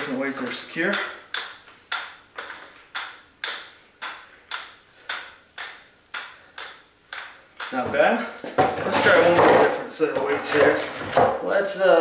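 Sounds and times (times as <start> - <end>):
dumbbells clicking: 0.0 - 9.7.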